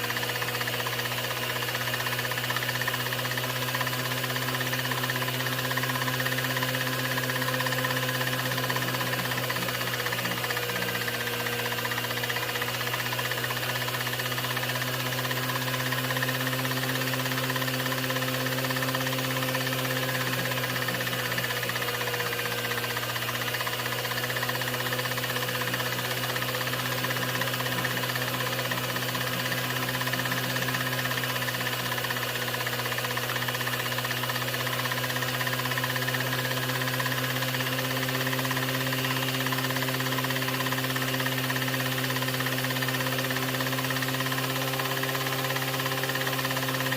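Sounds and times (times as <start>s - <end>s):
film projector running: 0.0s - 46.9s.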